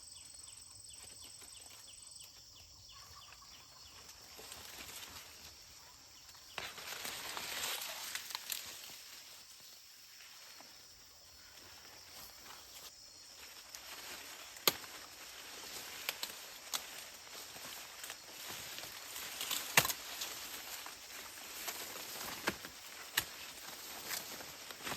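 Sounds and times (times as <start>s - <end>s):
rustling of grass and leaves: 0.0s - 24.9s.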